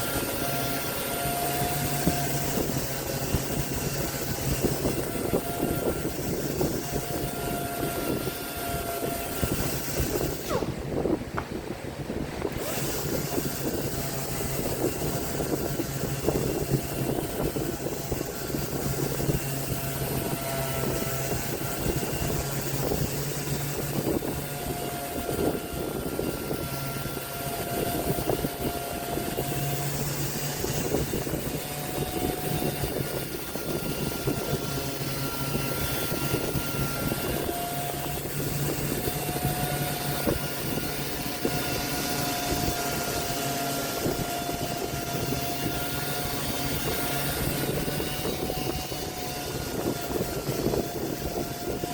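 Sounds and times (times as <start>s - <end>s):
power tool motor grinding wood: 0.0s - 51.9s.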